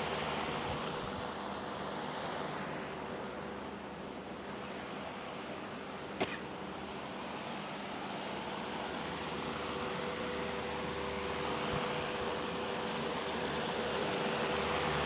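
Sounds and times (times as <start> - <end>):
outdoor hiss: 0.0 - 15.0.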